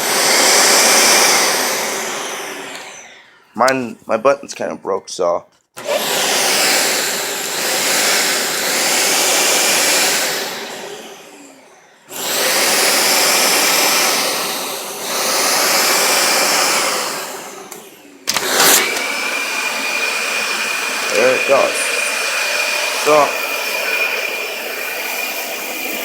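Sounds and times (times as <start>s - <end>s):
vacuum cleaner motor running: 0.0s - 4.0s, 5.8s - 26.0s.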